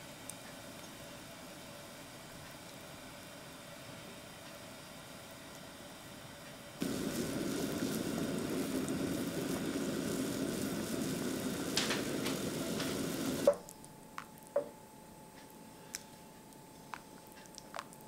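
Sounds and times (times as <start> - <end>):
water boiling and bubbling: 0.0 - 14.6, 16.6 - 18.0.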